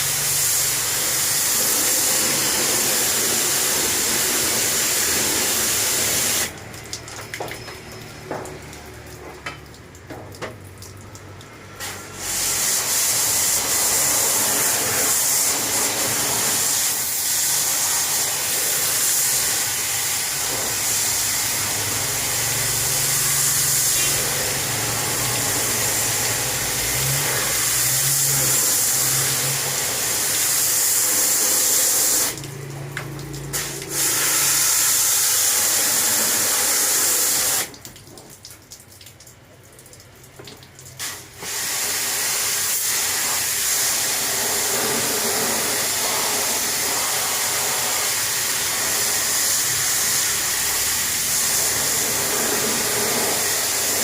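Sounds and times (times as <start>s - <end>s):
water spray jet hissing: 0.0s - 10.1s, 10.9s - 38.3s, 40.8s - 54.0s.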